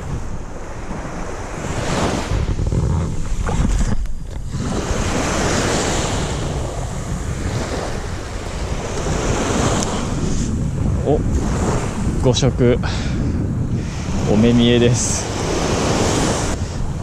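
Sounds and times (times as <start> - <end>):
surf breaking on beach: 0.0 - 12.4, 13.7 - 17.0
wind buffeting microphone: 0.0 - 17.0.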